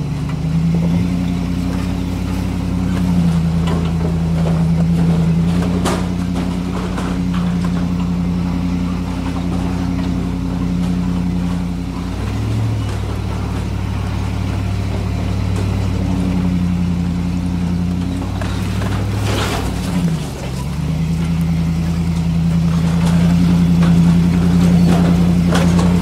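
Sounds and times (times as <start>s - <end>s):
off-road vehicle engine under load: 0.0s - 26.0s.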